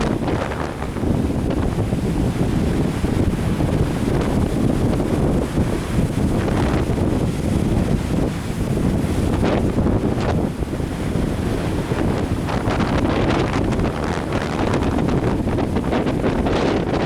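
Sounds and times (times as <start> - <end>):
lake waves splashing: 0.0 - 17.0
wind buffeting microphone: 0.0 - 17.0.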